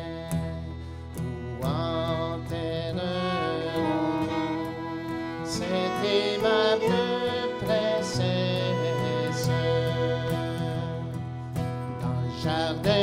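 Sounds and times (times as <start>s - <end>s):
fiddle melody: 0.0s - 13.0s
strummed acoustic guitar: 0.0s - 13.0s.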